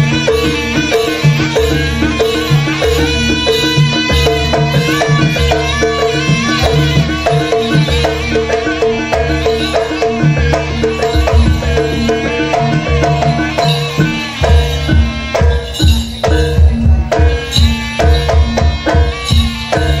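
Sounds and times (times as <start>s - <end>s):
hand drum strokes: 0.0s - 20.0s
ringing gongs and metallophones: 0.0s - 20.0s.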